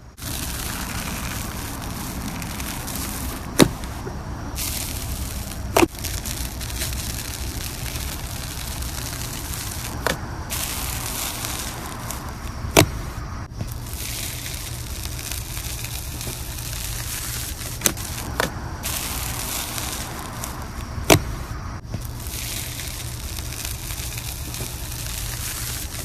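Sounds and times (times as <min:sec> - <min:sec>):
crunchy slime being squished: 0:00.0 - 0:26.0.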